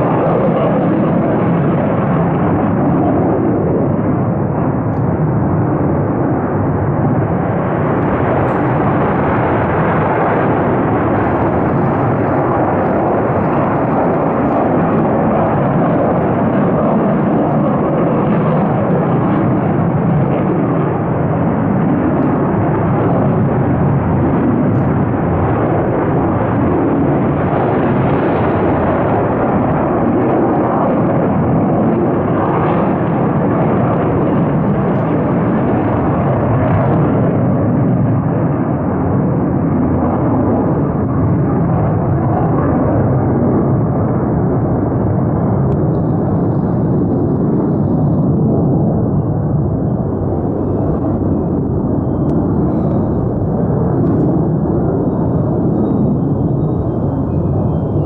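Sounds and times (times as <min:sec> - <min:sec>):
fighter jet engines roaring: 0:00.0 - 0:58.0.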